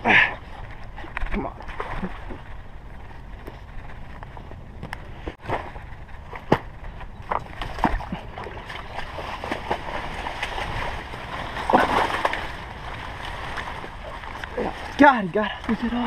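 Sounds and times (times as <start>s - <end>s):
water splashing and sloshing: 0.0s - 16.0s
leaves rustling: 0.2s - 16.0s.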